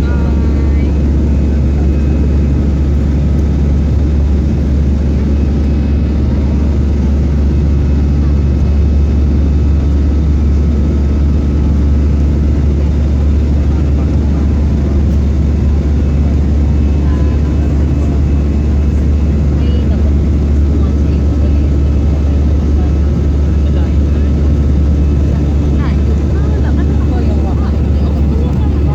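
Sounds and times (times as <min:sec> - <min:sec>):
airliner cabin engine rumble: 0:00.0 - 0:28.9.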